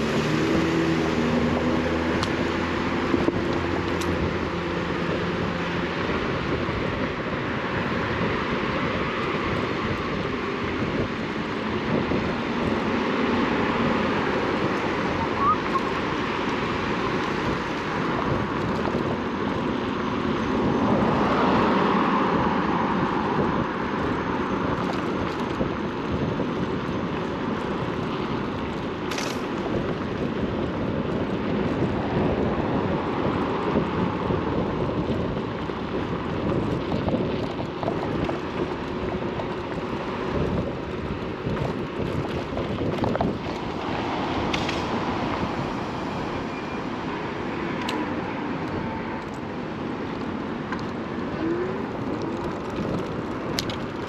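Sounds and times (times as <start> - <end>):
road noise: 0.0 - 54.0
wind rushing over microphone: 0.0 - 54.0.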